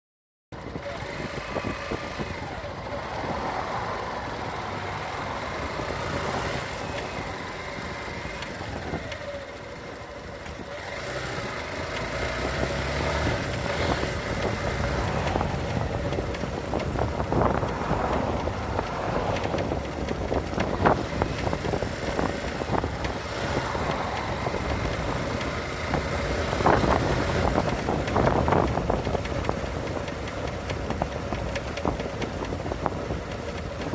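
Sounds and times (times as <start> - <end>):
road noise: 0.5 - 33.9
motorcycle engine: 0.6 - 33.9.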